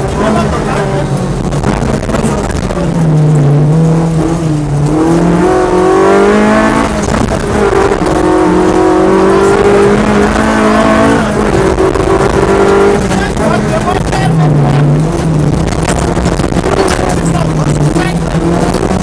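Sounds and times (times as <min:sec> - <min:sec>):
car engine accelerating: 0:00.0 - 0:19.0
tyre and road noise: 0:00.0 - 0:19.0.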